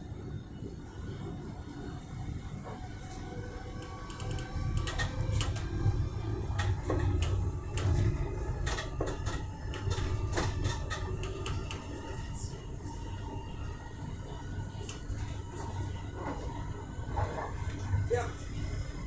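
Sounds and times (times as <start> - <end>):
train low rumble: 0.0 - 19.0.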